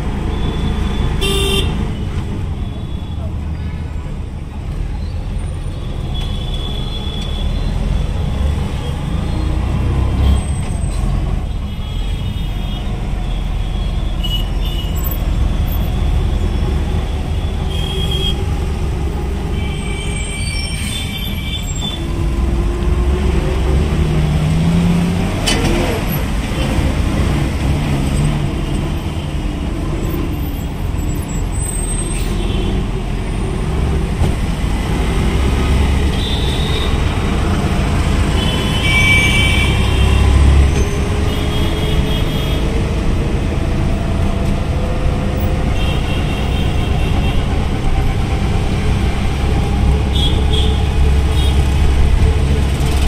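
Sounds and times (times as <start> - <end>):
vehicle engines rumbling: 0.0 - 53.0.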